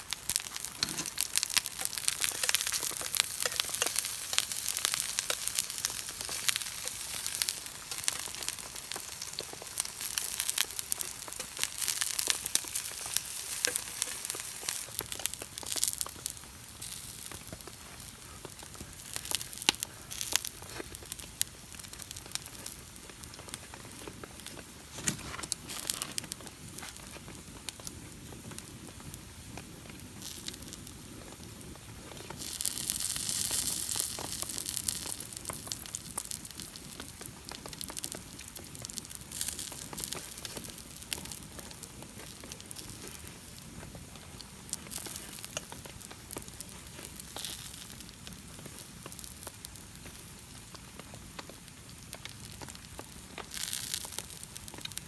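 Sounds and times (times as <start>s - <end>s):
campfire crackling and popping: 0.0s - 55.0s
fire hissing: 0.0s - 55.0s.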